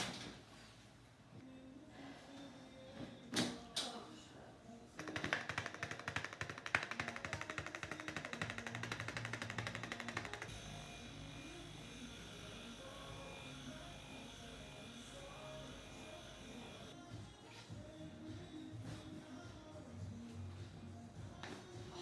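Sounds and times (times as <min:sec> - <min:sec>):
soft background music: 0:00.4 - 0:22.0.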